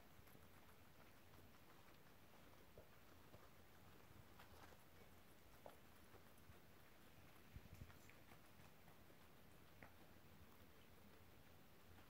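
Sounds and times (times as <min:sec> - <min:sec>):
guinea pigs chewing crunchily: 0:00.0 - 0:12.0.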